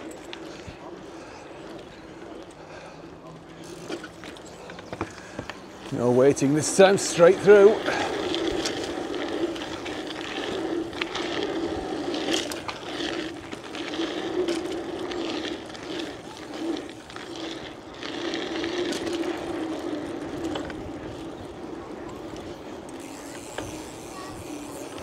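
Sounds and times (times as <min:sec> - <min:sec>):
bicycle tyres rolling hum: 0:00.0 - 0:25.0
bike rattles and clicks: 0:00.0 - 0:25.0.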